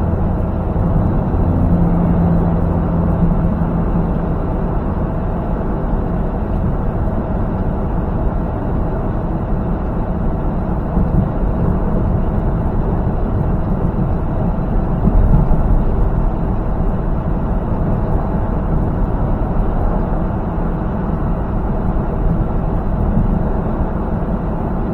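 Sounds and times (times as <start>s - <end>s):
truck engine drone: 0.0s - 24.9s
tyres on highway: 0.0s - 24.9s.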